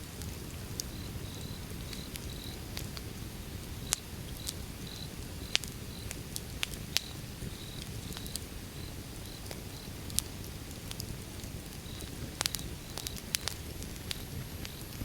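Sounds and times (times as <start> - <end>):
low rumble of flames: 0.0 - 15.0
wood fire crackling pops: 0.0 - 15.0.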